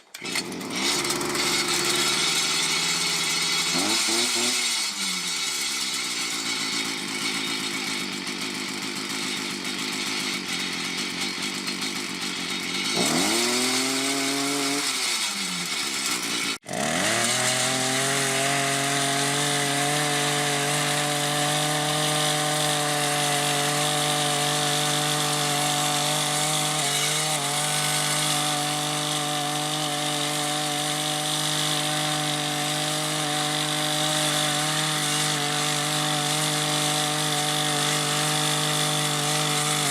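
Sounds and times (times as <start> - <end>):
small gas engine running: 0.0 - 39.9.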